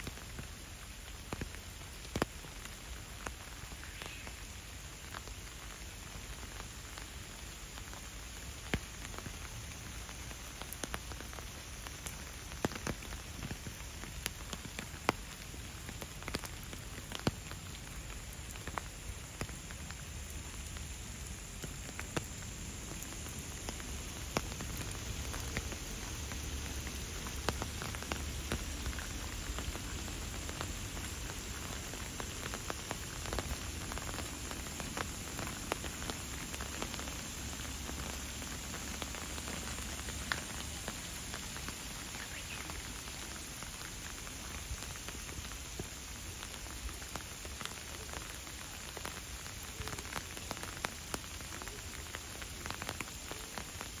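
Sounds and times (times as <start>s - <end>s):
raindrops ticking close by: 0.0s - 54.0s
steady rain hiss: 0.0s - 54.0s.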